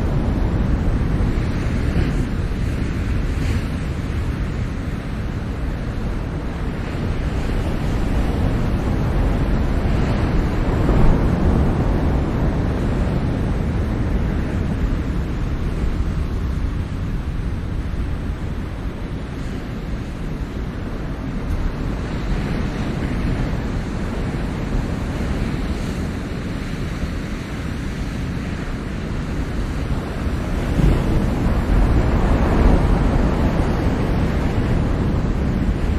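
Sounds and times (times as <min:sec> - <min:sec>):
ocean waves washing in: 0:00.0 - 0:35.9
wind rumble on microphone: 0:00.0 - 0:35.9.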